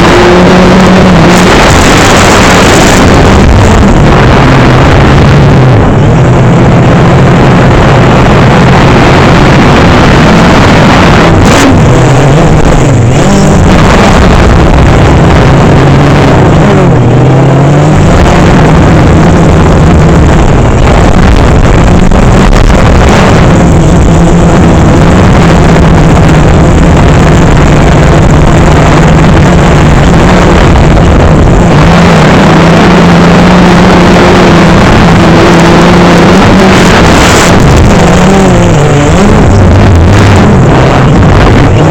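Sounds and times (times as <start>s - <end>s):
drone propellers buzzing: 0.0s - 41.9s.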